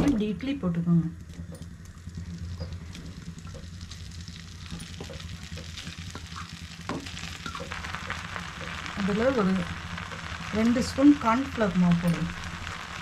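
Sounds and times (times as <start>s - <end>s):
steady low hum: 0.0s - 13.0s
food sizzling in hot oil: 1.2s - 13.0s.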